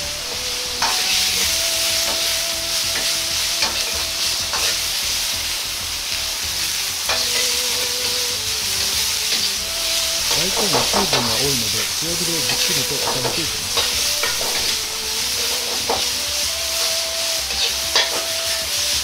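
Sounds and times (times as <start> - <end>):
food sizzling in oil: 0.0 - 19.0
metal ladle scraping wok: 0.0 - 19.0.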